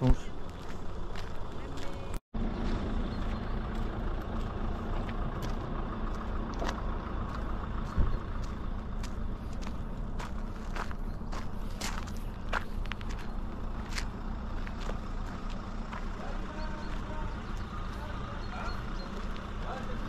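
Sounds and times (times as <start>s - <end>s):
gravel crunching: 0.0s - 20.0s.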